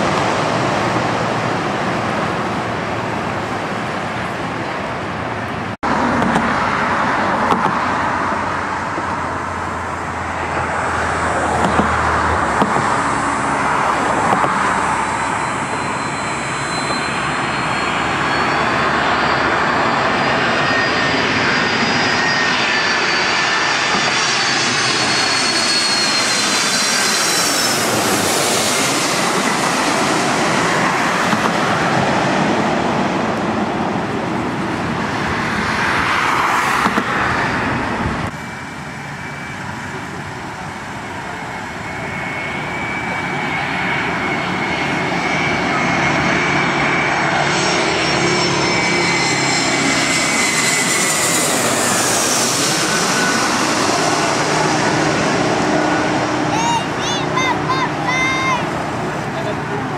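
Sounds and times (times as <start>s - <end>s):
jet airliner engines whining: 0.0s - 59.9s
twinjet engines approaching: 0.0s - 59.9s.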